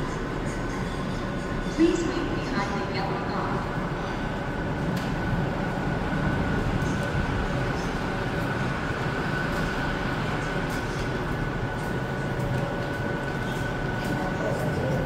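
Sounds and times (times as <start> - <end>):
light-rail train rumble: 0.0 - 15.0.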